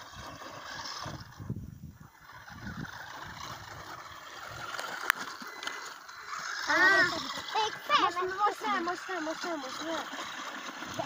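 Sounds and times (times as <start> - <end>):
rc car motor and tyres on sand: 0.0 - 11.0.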